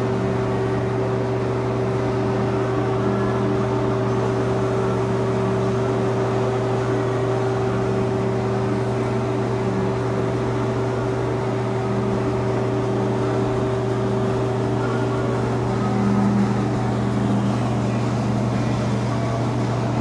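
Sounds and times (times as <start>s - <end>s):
fan-like rush of air: 0.0s - 20.0s
machine motor hum: 0.0s - 20.0s.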